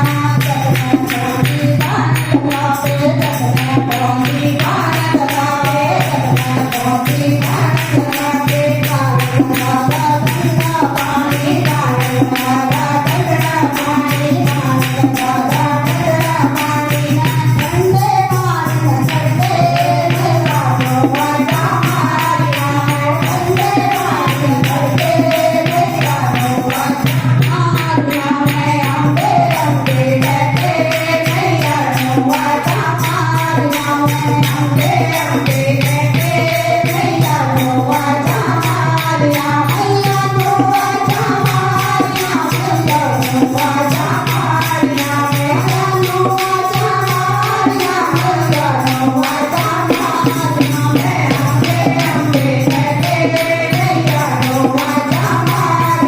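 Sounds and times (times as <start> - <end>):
devotional singing: 0.0 - 56.0
jingling percussion beat: 0.0 - 56.0.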